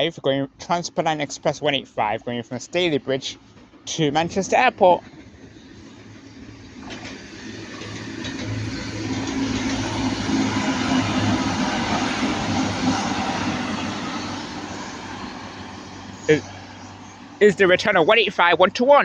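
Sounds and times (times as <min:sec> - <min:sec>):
diesel train passing: 0:00.0 - 0:19.0.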